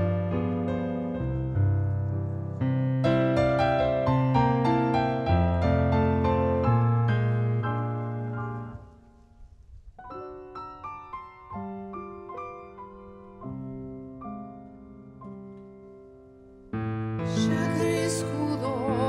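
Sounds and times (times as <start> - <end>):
fuller accompaniment: 0.0 - 19.0
piano playing: 0.0 - 19.0.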